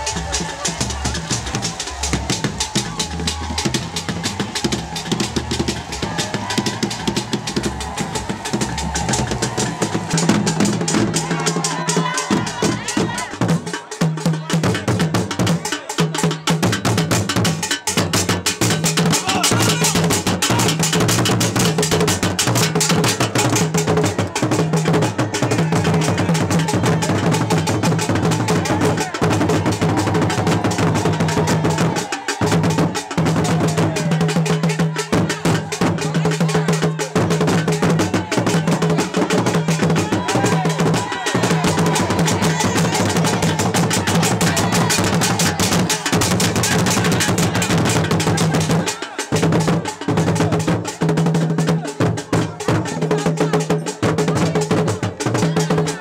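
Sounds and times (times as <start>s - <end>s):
crowd voices: 0.0s - 56.0s
drum ensemble playing: 0.0s - 56.0s.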